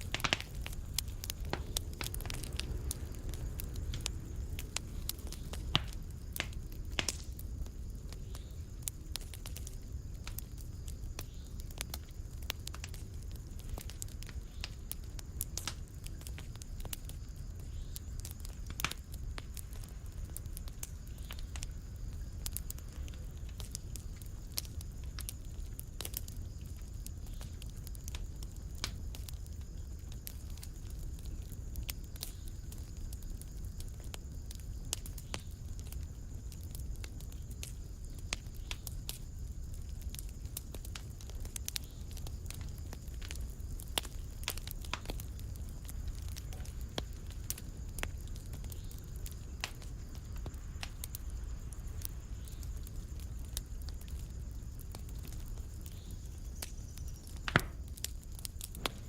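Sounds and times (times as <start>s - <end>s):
fireplace fire crackling: 0.0s - 59.0s.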